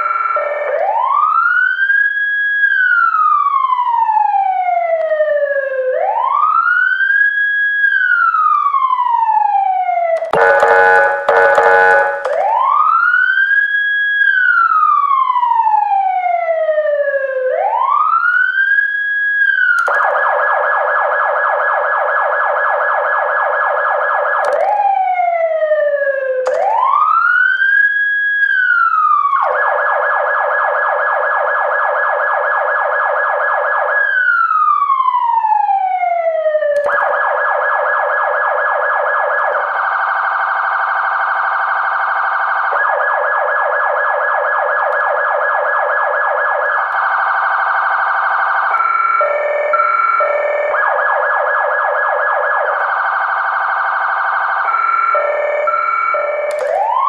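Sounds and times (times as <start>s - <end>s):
emergency vehicle siren: 0.0s - 57.0s.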